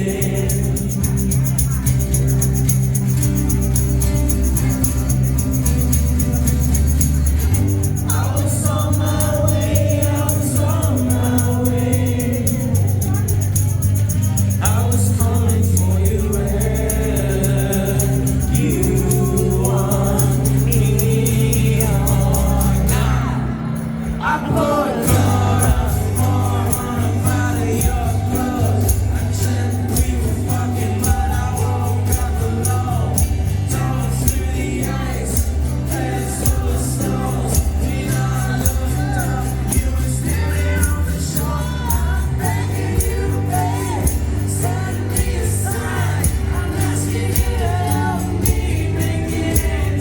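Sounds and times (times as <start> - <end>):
acoustic rock band playing: 0.0 - 50.0
high percussion beat: 0.0 - 50.0
person singing: 7.5 - 50.0.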